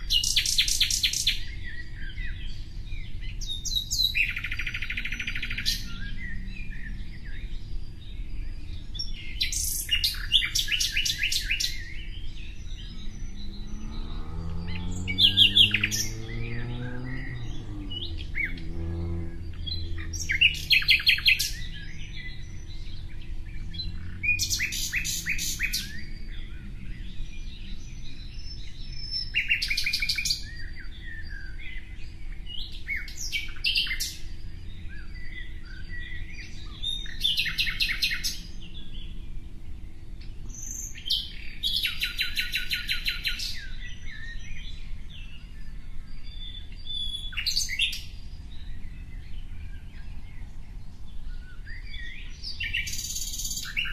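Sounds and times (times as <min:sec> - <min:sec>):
songbird trilling: 0:00.0 - 0:39.3, 0:40.2 - 0:50.5, 0:51.1 - 0:53.9
bird chirps: 0:00.0 - 0:53.9.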